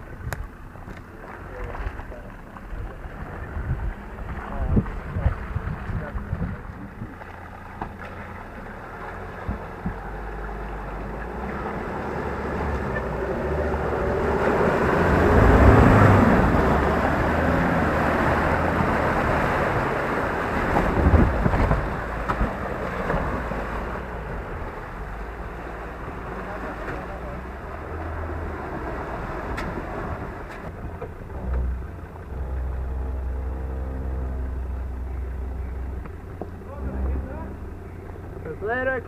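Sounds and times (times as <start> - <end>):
truck engine working: 0.0 - 39.0
water surging and splashing: 0.0 - 39.0.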